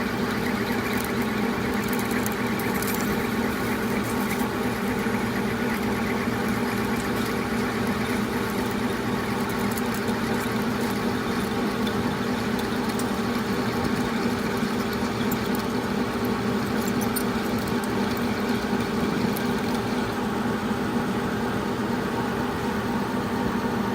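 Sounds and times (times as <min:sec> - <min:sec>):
metal lathe running: 0:00.0 - 0:23.9.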